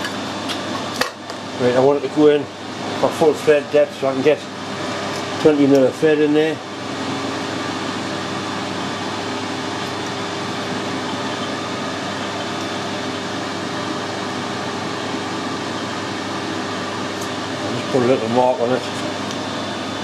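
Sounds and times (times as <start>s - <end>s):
workshop machinery whirring hum: 0.0s - 20.0s.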